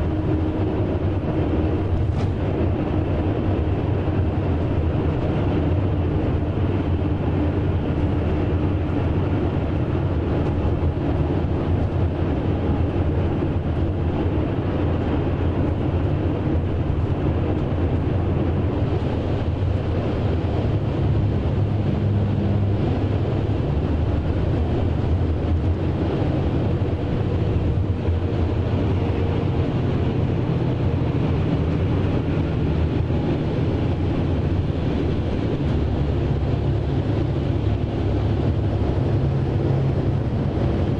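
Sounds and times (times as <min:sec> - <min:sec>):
coach diesel engine hum: 0:00.0 - 0:40.9
tyre and road noise: 0:00.0 - 0:40.9.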